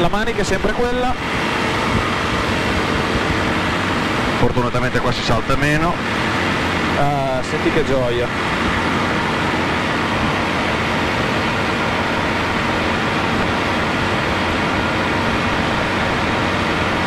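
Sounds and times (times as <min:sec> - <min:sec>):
aircraft engine and propeller: 0:00.0 - 0:17.0.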